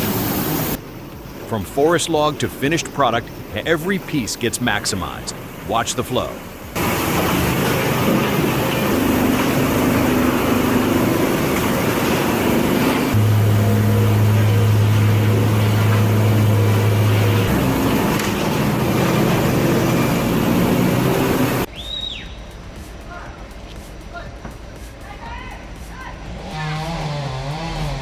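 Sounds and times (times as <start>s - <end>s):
sawmill machinery din: 0.0s - 21.7s, 25.7s - 28.0s.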